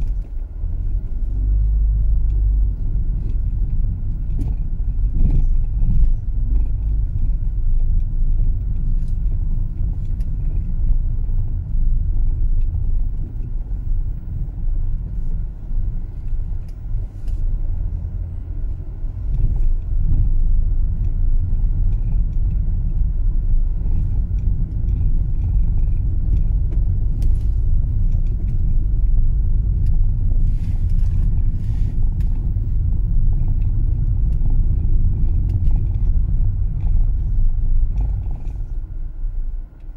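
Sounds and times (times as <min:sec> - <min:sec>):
tyre and engine rumble: 0:00.0 - 0:39.9.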